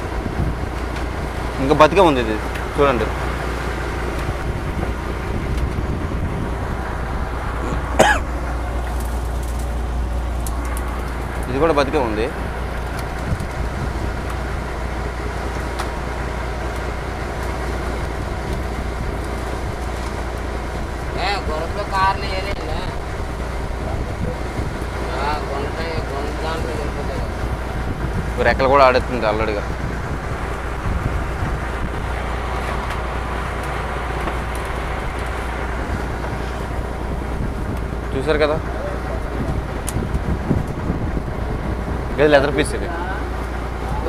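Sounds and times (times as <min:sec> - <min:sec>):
boat engine droning: 0:00.0 - 0:44.0
water noise: 0:00.0 - 0:44.0
wind: 0:00.0 - 0:44.0.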